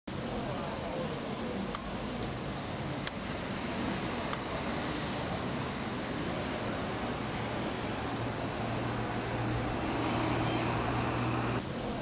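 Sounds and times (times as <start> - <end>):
traffic: 0.1 - 12.0.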